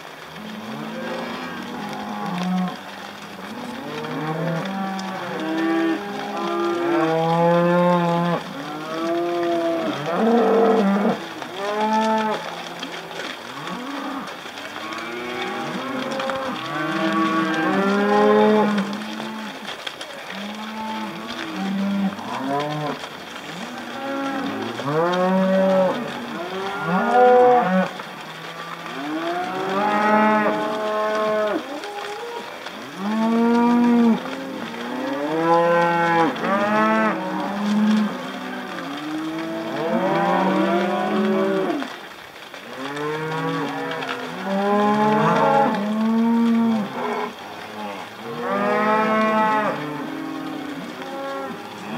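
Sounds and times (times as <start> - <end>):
cows mooing: 0.3 - 42.0, 42.7 - 51.9.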